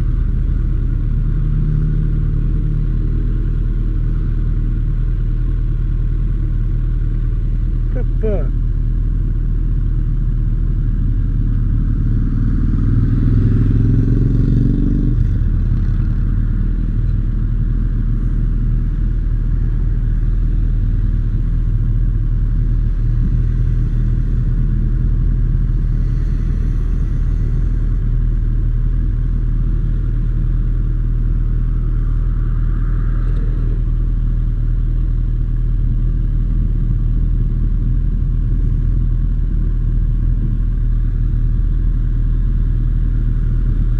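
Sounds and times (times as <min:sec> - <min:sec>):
motorcycle engine idling: 0:00.0 - 0:12.2, 0:15.2 - 0:43.9.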